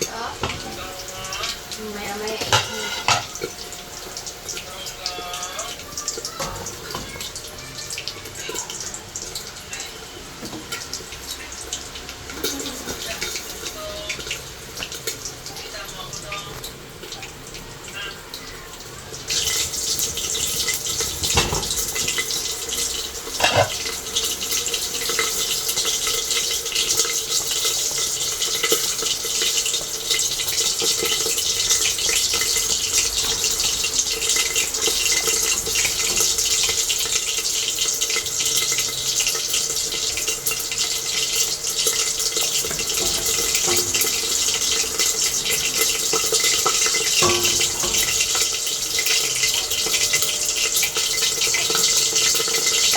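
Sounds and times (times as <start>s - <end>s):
tap water running into sink: 0.0s - 52.9s.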